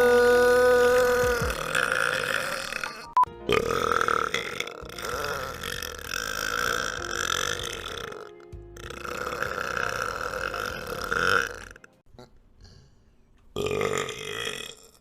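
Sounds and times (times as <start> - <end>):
background music: 0.0 - 12.0
man burping: 0.0 - 12.4, 13.6 - 15.0.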